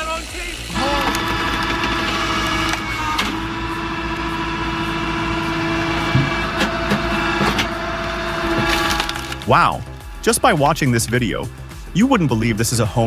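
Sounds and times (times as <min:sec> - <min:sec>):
machine engine running: 0:00.0 - 0:10.8.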